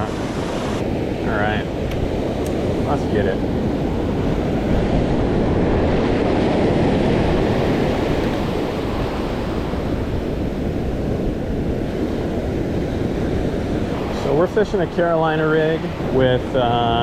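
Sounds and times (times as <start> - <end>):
ocean surf washing onto beach: 0.0 - 17.0
wind buffeting microphone: 0.0 - 17.0.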